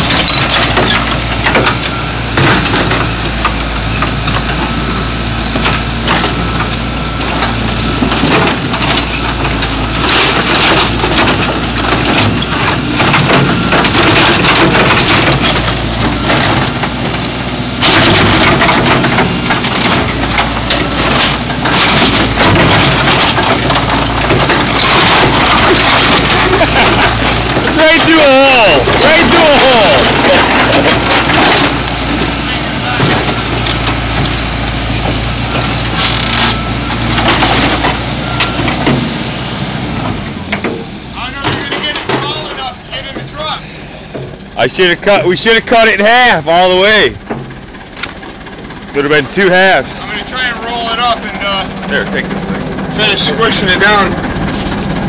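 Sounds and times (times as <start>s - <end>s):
backhoe engine running: 0.0s - 55.0s
metal crunching and crackling: 0.0s - 55.0s.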